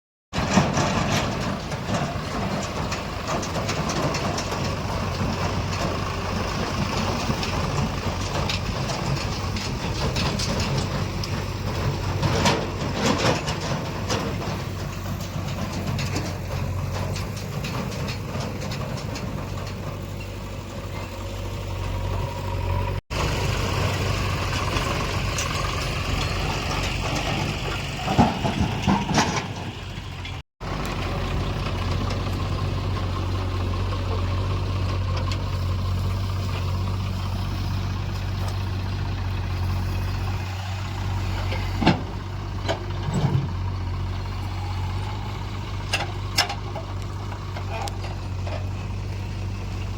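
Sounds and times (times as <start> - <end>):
metal clanks and knocks: 0.3 - 22.3, 24.5 - 49.9
diesel engine running: 0.3 - 49.9.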